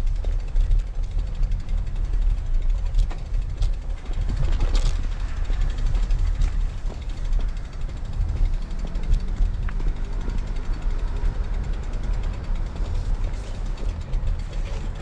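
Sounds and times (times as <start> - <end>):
faint ticks: 0.0 - 15.0
wind rumbling on microphone: 0.0 - 15.0.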